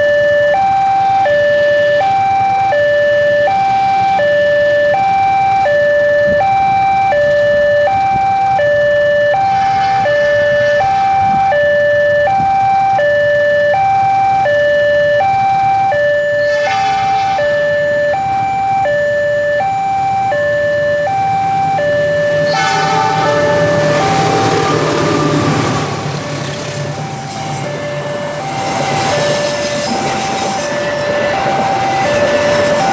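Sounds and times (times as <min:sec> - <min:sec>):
electronic two-tone crossing alarm: 0:00.0 - 0:32.9.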